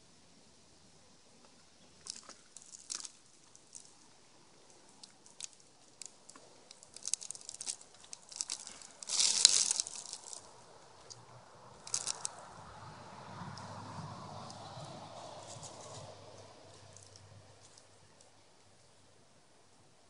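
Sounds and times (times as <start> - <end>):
squirrel rustling in seeds: 2.0 - 18.4.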